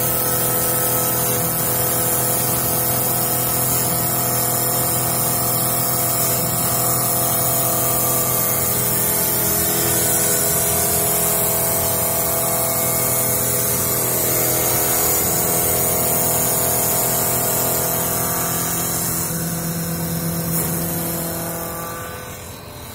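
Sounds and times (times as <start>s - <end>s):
cutters hissing on wood: 0.0s - 22.9s
lathe motor hum and whine: 0.0s - 22.9s.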